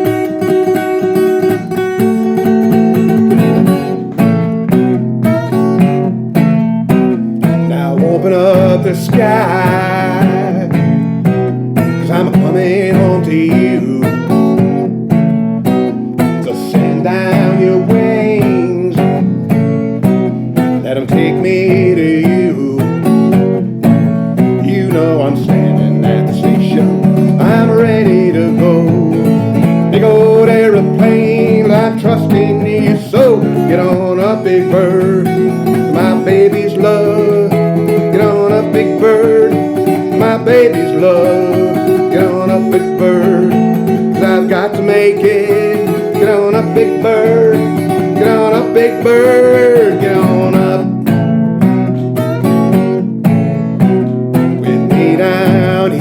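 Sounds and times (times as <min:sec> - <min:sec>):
strummed acoustic guitar: 0:00.0 - 0:56.0.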